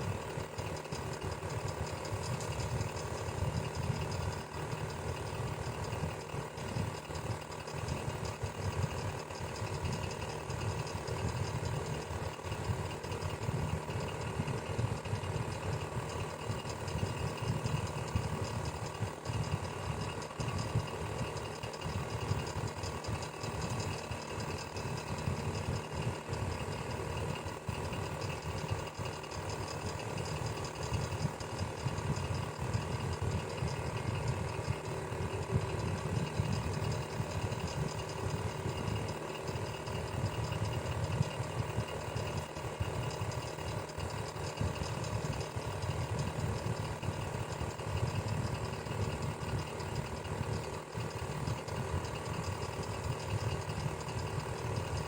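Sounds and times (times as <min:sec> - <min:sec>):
electric fan whirring: 0:00.0 - 0:55.0
fast mechanical rattle: 0:00.0 - 0:55.0.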